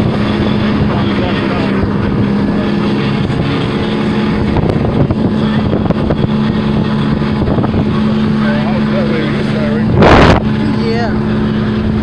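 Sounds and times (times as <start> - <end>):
outboard motor running: 0.0 - 12.0
water rushing past hull: 0.0 - 12.0
wind on microphone: 0.0 - 12.0.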